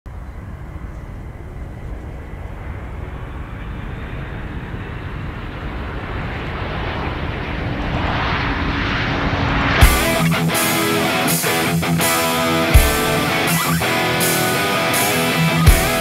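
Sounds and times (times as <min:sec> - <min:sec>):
jet rumble with high whine: 0:00.1 - 0:16.0.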